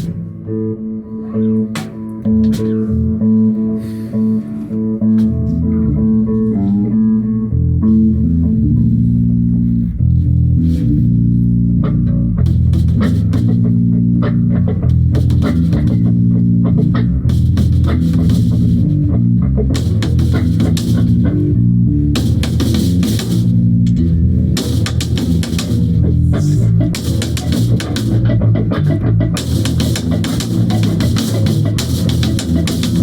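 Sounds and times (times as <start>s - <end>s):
bass guitar: 0.0s - 33.0s
guitar playing rock jam: 0.0s - 33.0s.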